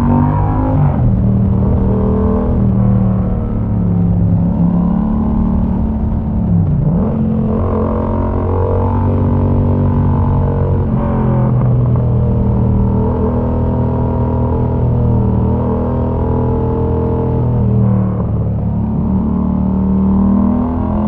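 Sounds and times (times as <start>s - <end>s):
loud motorcycle engine riding: 0.0s - 21.0s.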